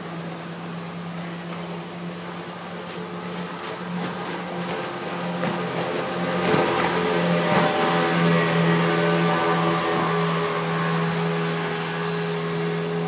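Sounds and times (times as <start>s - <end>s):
rush of boat spray: 0.0s - 13.0s
speedboat motor drone: 0.0s - 13.0s.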